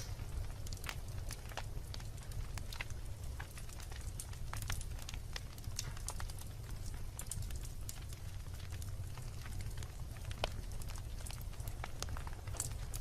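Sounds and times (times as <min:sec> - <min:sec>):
logs crackling and popping: 0:00.0 - 0:13.0
low rumble of fire: 0:00.0 - 0:13.0.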